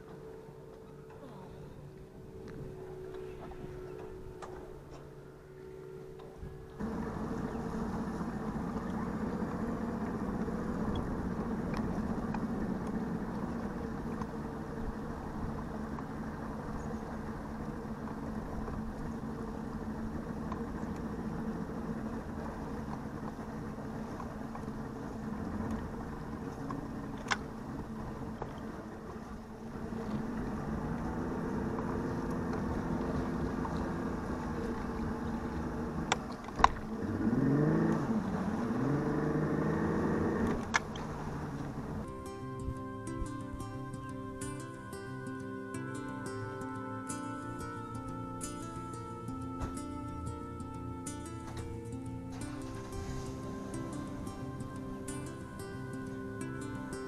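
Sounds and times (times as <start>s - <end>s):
outboard engine idling: 0.0s - 57.0s.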